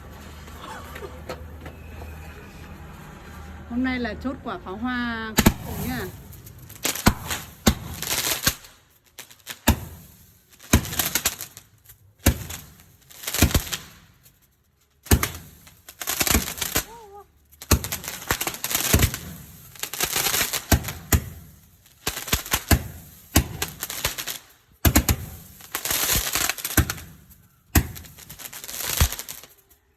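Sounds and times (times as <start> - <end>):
fireworks banging and crackling: 5.3 - 29.9.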